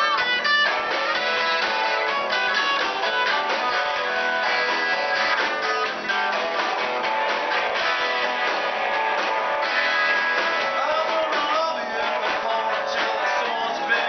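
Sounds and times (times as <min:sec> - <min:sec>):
drums: 0:00.0 - 0:14.0
electric guitars: 0:00.0 - 0:14.0
upright bass: 0:00.0 - 0:14.0.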